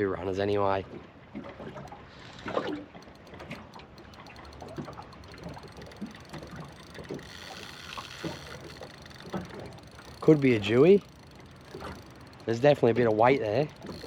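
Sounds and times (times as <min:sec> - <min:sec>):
rod and reel clicks and knocks: 0:01.4 - 0:14.0.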